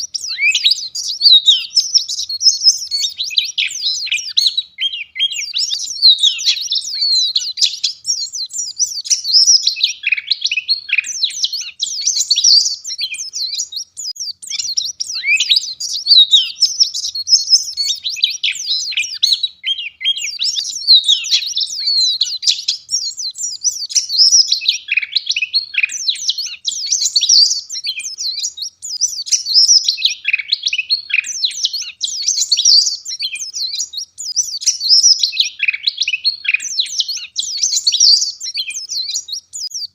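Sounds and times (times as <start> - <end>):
bird twittering chirps and trills: 0.0 - 39.9.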